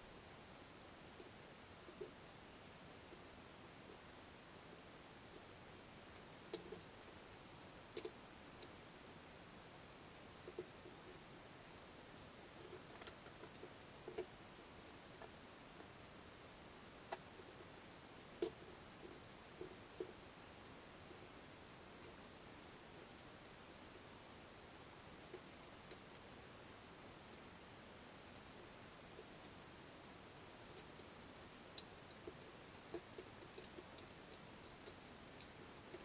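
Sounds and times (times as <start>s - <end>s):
faint steady hiss: 0.0s - 36.0s.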